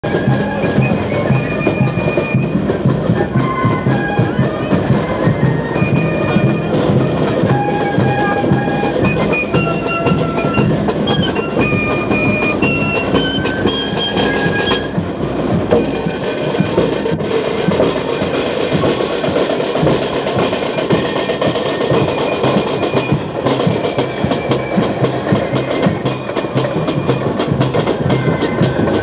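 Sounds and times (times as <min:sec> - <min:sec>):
high flute melody: 0:00.0 - 0:29.0
snare and bass drums: 0:00.0 - 0:29.0.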